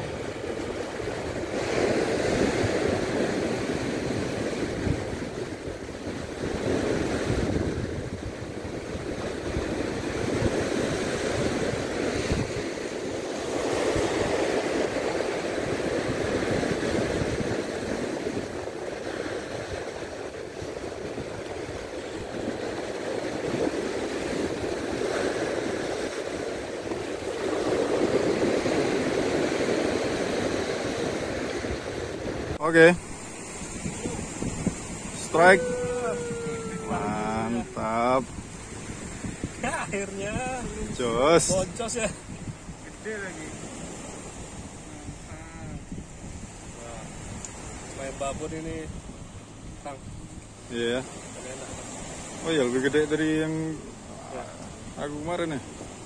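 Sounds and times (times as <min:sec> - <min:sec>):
small waves breaking on shore: 0:00.0 - 0:56.0.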